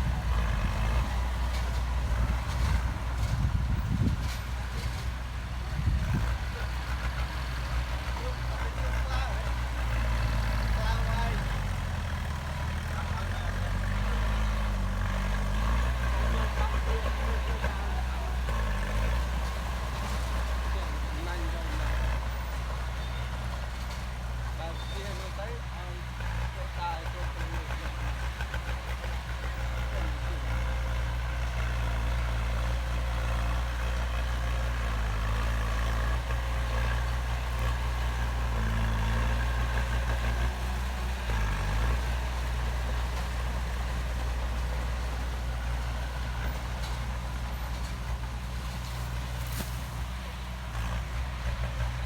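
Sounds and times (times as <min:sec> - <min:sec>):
heavy diesel engine droning: 0:00.0 - 0:52.0.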